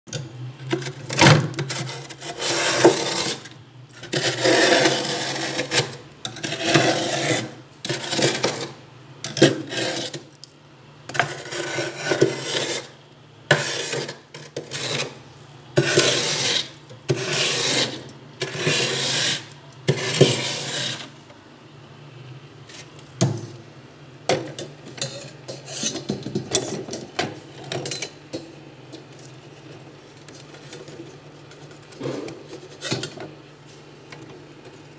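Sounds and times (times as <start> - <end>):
spoon scraping frost: 0.7 - 21.2, 22.6 - 23.3, 24.5 - 33.2.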